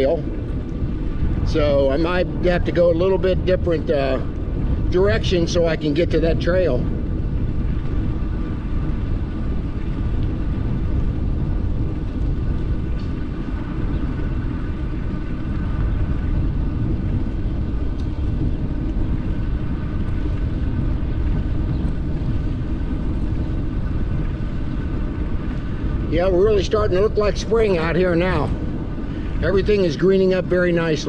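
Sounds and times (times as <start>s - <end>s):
faint high whine: 0.0s - 31.0s
wind rumbling on microphone: 0.0s - 31.0s.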